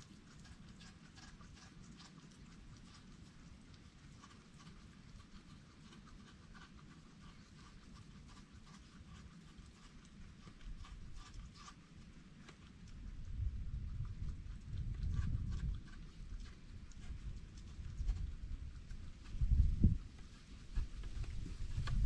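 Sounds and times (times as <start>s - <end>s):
animal chewing food: 0.0s - 22.0s.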